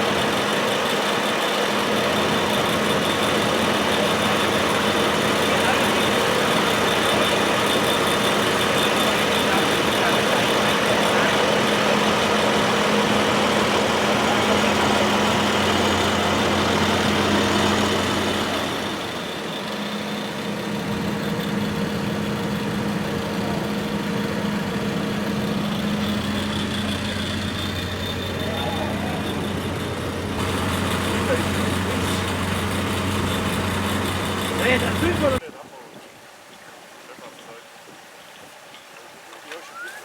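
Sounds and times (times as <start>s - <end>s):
heavy engine idling: 0.0s - 35.4s.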